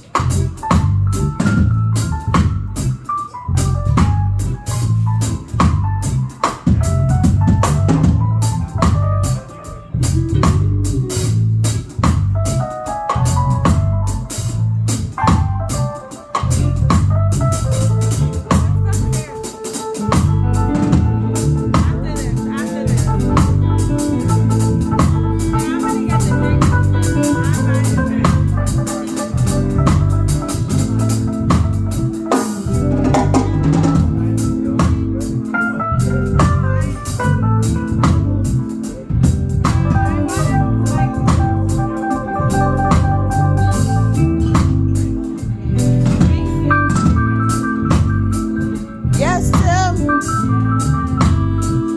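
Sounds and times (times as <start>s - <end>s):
bass: 0.0s - 51.9s
drum kit cymbal and drum hits: 0.0s - 51.9s
organ chords: 0.0s - 51.9s.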